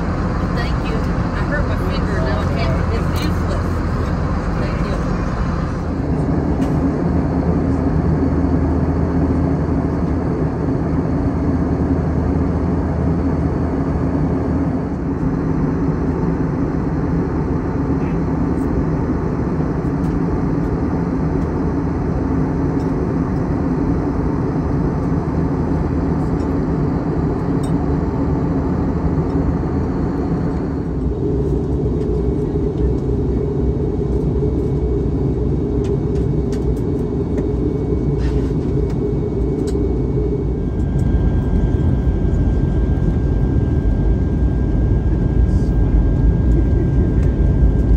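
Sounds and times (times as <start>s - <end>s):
airliner cabin noise: 0.0s - 47.9s.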